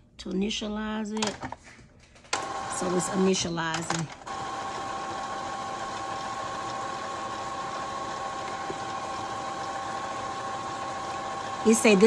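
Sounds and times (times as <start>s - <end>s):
printer mechanical whir: 2.3s - 12.0s.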